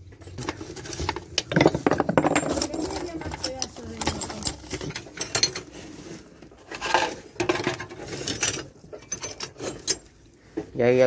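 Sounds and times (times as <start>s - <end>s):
small metal objects clinking: 0.1s - 5.8s, 6.8s - 10.2s.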